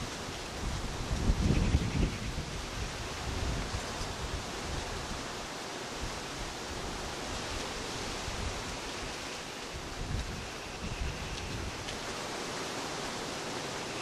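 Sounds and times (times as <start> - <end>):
wind hiss: 0.0 - 14.0
wind rumbling on microphone: 0.0 - 14.0.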